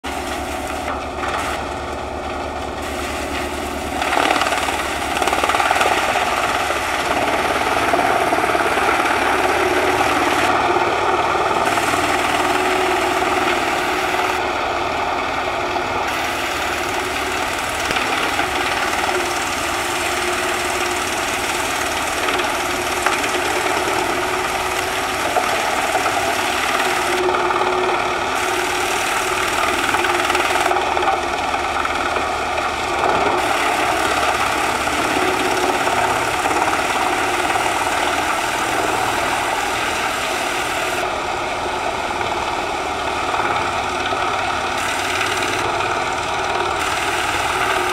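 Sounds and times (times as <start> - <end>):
truck engine running: 0.0 - 47.9
wood chipper chipping branches: 0.0 - 47.9.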